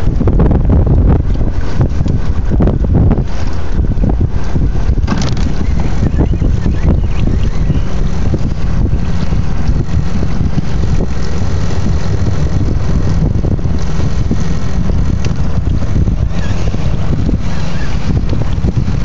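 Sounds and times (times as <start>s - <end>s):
outboard motor running: 0.0s - 19.0s
water rushing past hull: 0.0s - 19.0s
wind buffeting microphone: 0.0s - 19.0s.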